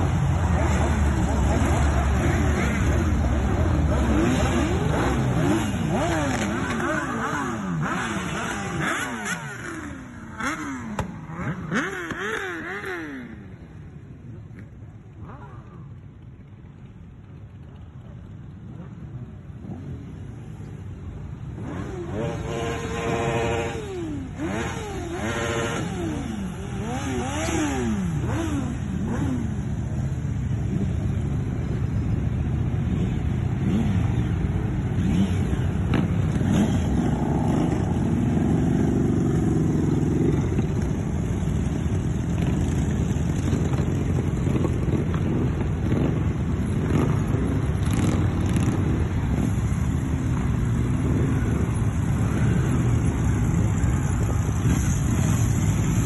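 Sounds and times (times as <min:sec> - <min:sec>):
motorcycles riding past: 0:00.0 - 0:56.0.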